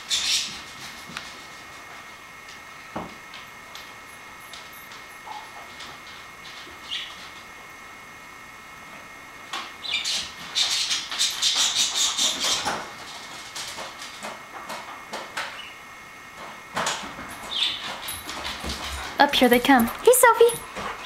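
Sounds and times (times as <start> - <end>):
dogs scuffling and scrabbling: 0.0 - 7.6, 10.0 - 15.6, 16.4 - 21.0.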